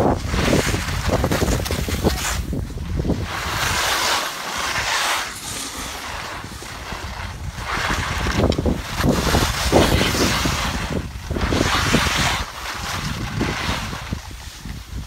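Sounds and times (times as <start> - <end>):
skis swishing on snow: 0.0 - 15.0
wind rushing over microphone: 0.0 - 15.0.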